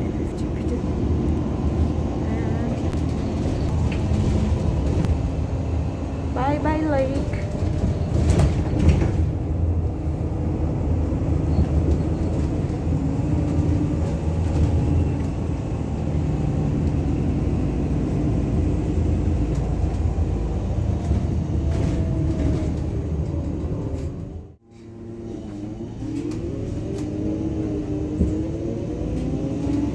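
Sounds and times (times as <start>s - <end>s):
bus engine and road rumble: 0.0s - 29.9s.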